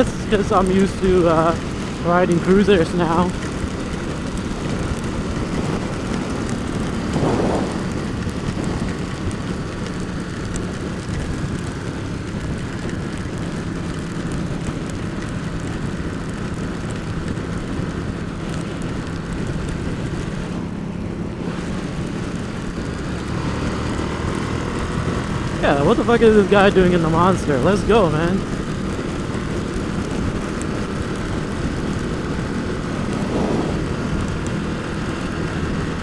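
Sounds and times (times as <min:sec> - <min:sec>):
motorcycle engine cruising: 0:00.0 - 0:36.0
wind and rain on microphone: 0:00.0 - 0:36.0.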